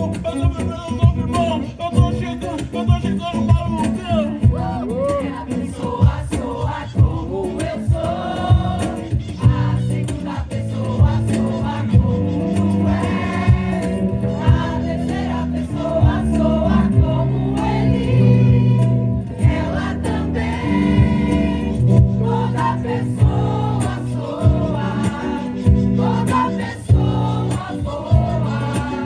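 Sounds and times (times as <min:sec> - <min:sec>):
acoustic guitar: 0:00.0 - 0:29.0
hand percussion: 0:00.0 - 0:29.0
mixed choir singing: 0:04.5 - 0:29.0.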